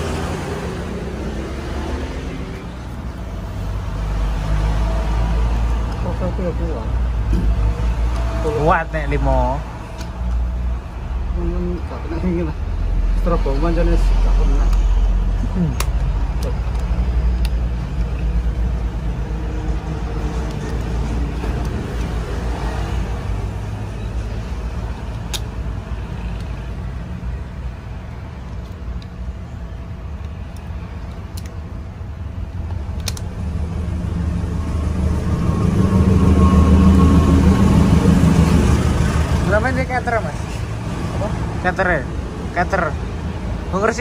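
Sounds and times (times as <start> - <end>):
vehicle engine humming: 0.0 - 44.0.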